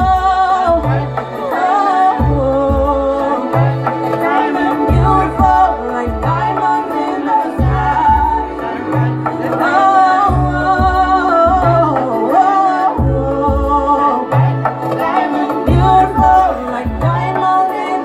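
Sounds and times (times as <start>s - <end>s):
woman singing into microphone: 0.0s - 18.0s.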